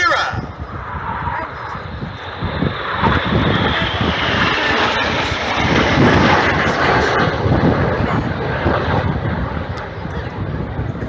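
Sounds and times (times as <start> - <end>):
jet engines rushing past: 0.0 - 11.0.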